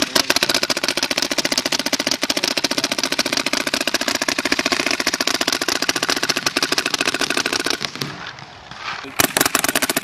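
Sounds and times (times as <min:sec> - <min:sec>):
paintball markers firing full auto: 0:00.0 - 0:08.4, 0:09.0 - 0:10.0.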